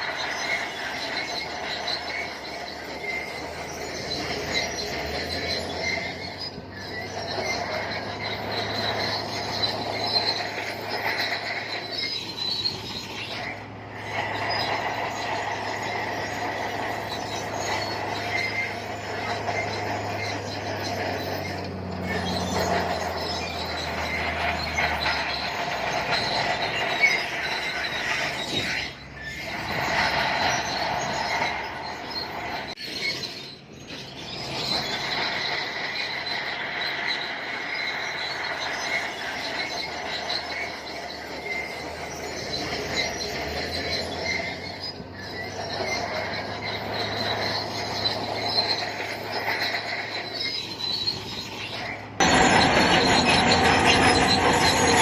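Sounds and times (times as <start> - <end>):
crawler tracks squealing: 0.0 - 55.0
diesel engine drone: 0.0 - 55.0.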